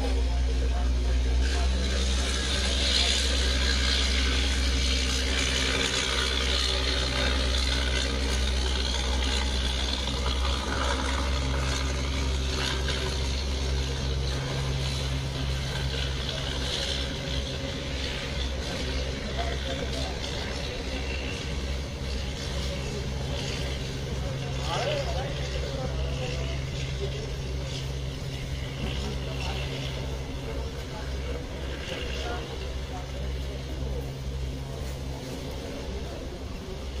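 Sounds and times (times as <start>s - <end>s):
boat engine humming: 0.0s - 37.0s
choppy water: 0.0s - 37.0s
wind: 0.0s - 37.0s.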